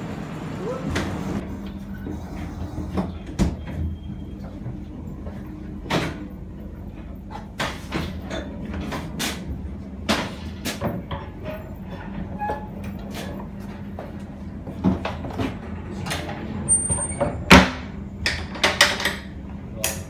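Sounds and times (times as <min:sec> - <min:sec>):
train carriage low hum: 0:00.0 - 0:18.3.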